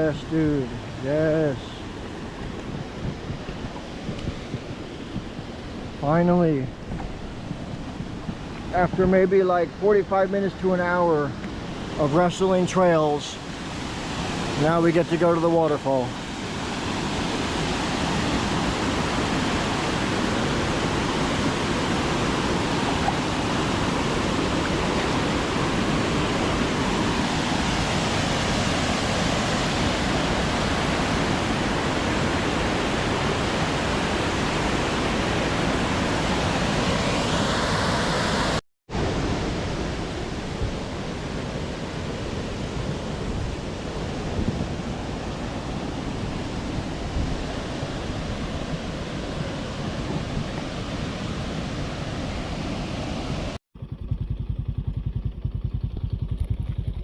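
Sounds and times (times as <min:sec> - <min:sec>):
waterfall rushing: 0:00.0 - 0:02.6, 0:08.1 - 0:53.6.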